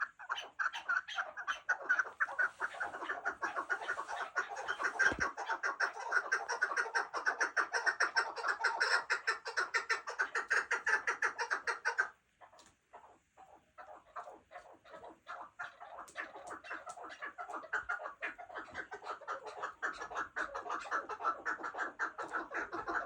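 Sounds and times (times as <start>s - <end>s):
partridge clucking calls: 0.0s - 23.0s.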